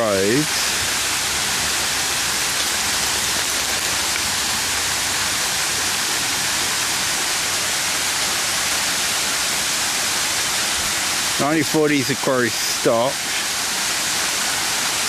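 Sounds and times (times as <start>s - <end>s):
water pouring down a waterfall: 0.0s - 15.0s.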